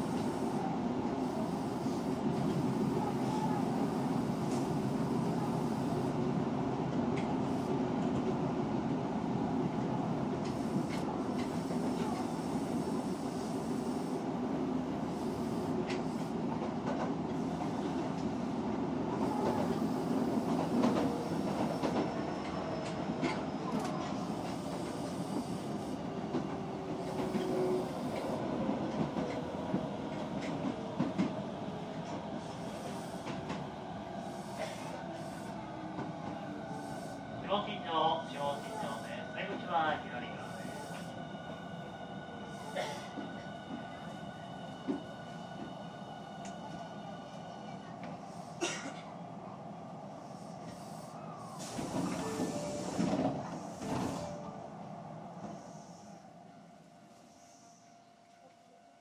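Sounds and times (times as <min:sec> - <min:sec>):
train wheels rumbling on rail: 0:00.0 - 0:56.4.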